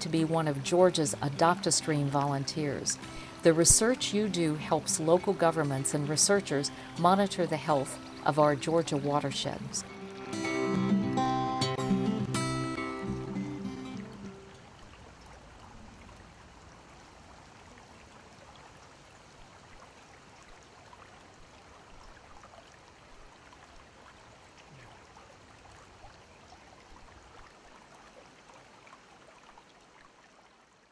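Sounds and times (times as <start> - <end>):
creek water running: 0.0 - 30.9.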